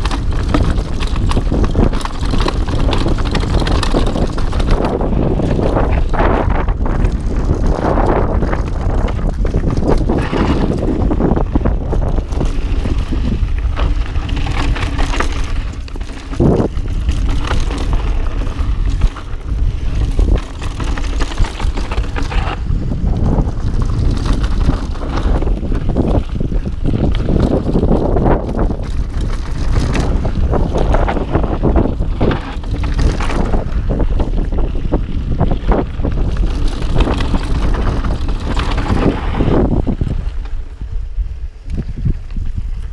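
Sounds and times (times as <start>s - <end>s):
bike rattling and knocking: 0.0s - 42.9s
tyres on dirt trail: 0.0s - 42.9s
wind buffeting microphone: 0.0s - 42.9s.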